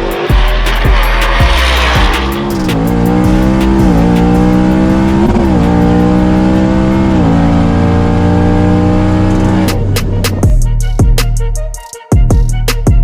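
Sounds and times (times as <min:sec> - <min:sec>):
car engine at full throttle: 0:00.0 - 0:10.5.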